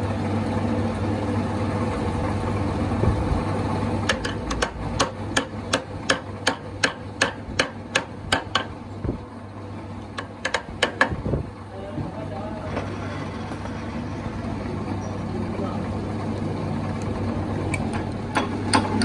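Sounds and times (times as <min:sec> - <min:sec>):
workshop machine humming: 0:00.0 - 0:19.0.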